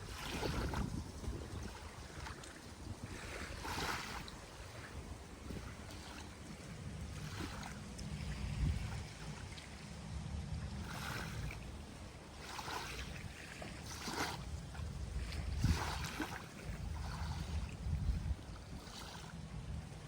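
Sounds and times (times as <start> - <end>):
small waves washing onto beach: 0.0 - 20.0
wind rumble on microphone: 0.0 - 20.0.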